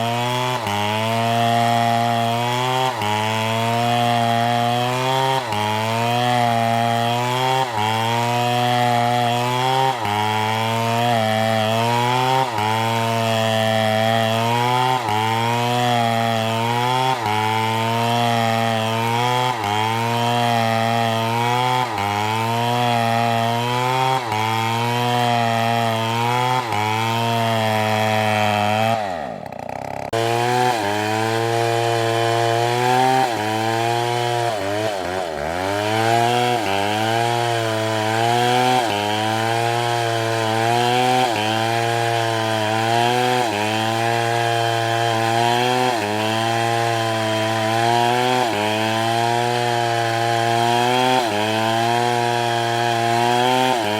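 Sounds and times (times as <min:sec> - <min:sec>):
chainsaw cutting under load: 0:00.0 - 0:53.9.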